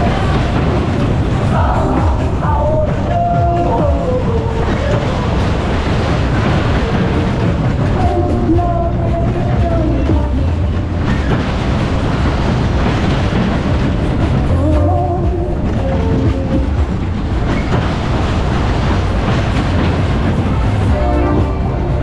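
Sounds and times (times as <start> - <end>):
ride wheels rumbling on rails: 0.0 - 22.0.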